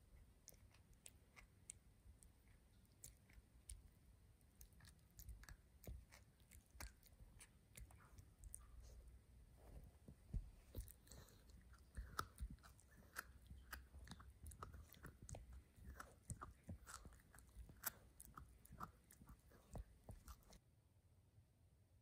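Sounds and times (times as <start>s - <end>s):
puppy crunching on dry meat: 0.4s - 9.0s, 9.7s - 20.6s.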